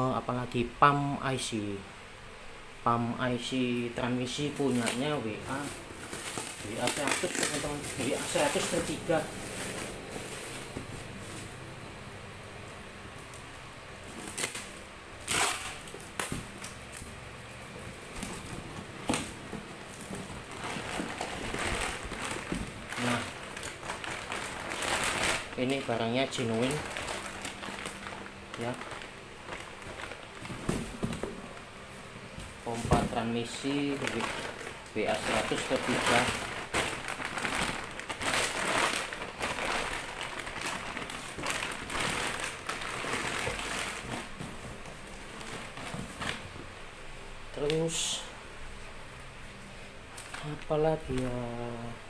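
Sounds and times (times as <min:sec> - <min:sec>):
plastic wrapping crinkling: 0:03.9 - 0:11.7, 0:13.1 - 0:46.8, 0:49.6 - 0:52.0.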